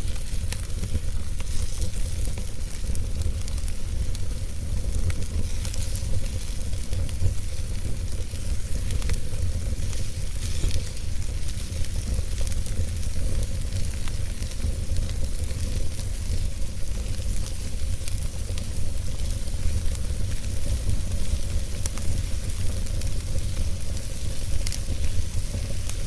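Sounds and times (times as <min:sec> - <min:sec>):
fire burning low rumble: 0:00.0 - 0:26.0
fire crackles and pops: 0:00.0 - 0:26.0.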